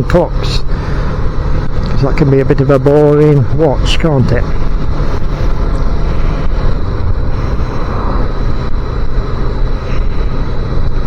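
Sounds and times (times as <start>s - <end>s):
motorbike engine running: 0.0s - 11.0s
wind rumble on microphone: 0.0s - 11.0s.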